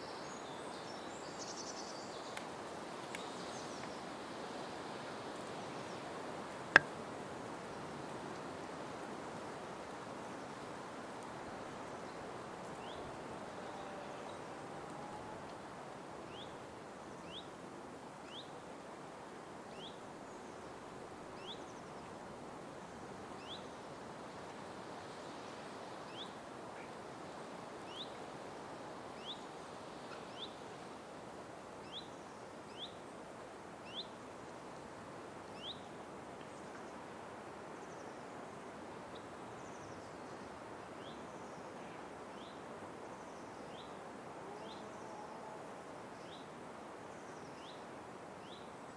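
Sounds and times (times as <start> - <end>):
steady forest hiss: 0.0 - 48.9.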